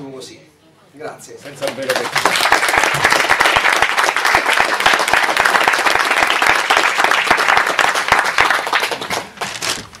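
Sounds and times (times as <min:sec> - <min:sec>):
audience applauding: 0:01.5 - 0:09.6.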